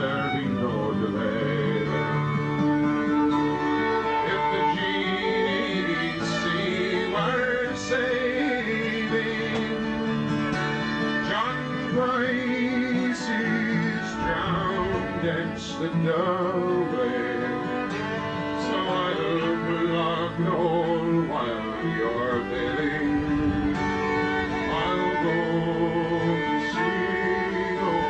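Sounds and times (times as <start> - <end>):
acoustic guitar: 0.0 - 28.0
fiddle playing: 0.0 - 28.0.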